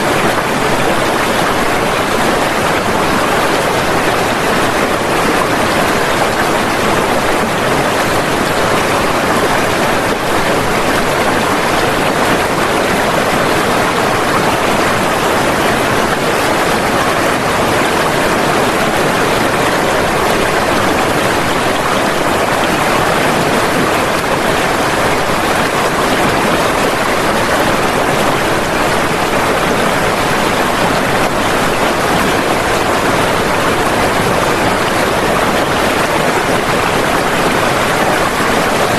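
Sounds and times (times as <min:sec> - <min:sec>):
floodwater rushing: 0:00.0 - 0:38.9.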